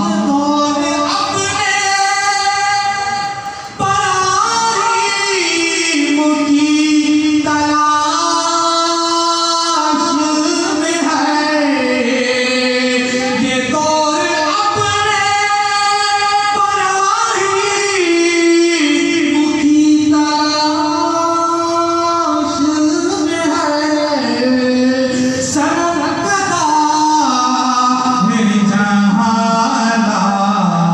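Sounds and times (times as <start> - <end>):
man chanting through a microphone: 0.0 - 30.9.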